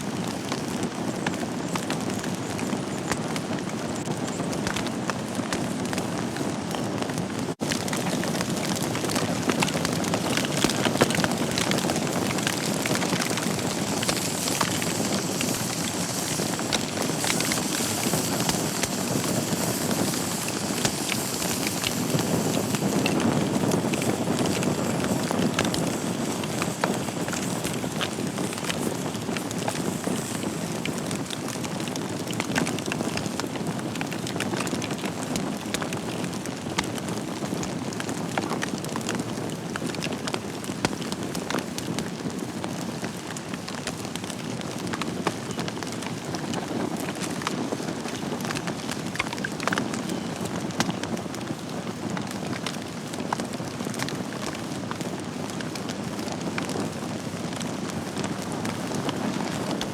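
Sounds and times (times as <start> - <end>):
logs crackling and popping: 0.0 - 59.9
wood fire burning: 0.0 - 59.9.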